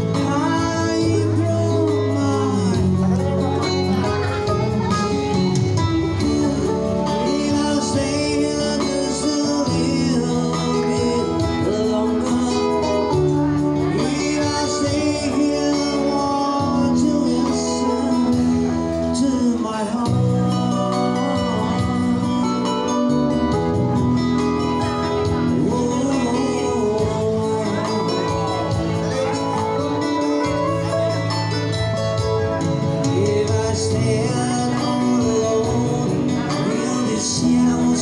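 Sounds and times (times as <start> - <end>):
band backing: 0.0 - 38.0
guitar: 0.0 - 38.0
person singing: 0.0 - 38.0.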